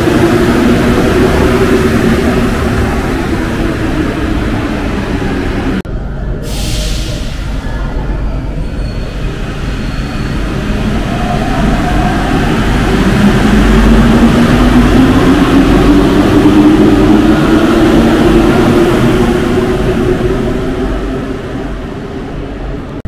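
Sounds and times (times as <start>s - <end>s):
metro train accelerating: 0.0s - 23.0s.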